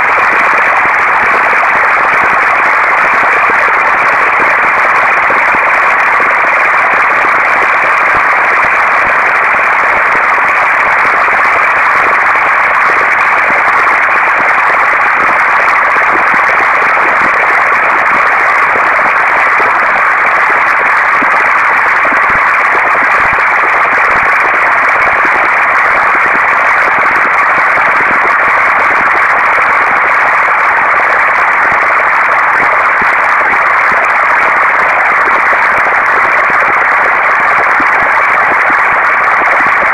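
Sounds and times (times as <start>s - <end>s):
steady static-like noise: 0.0s - 39.9s.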